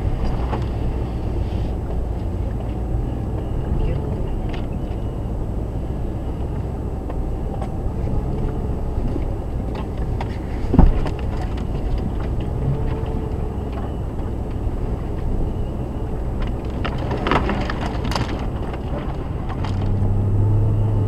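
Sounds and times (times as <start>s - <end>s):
engine and drivetrain rumble: 0.0s - 21.0s.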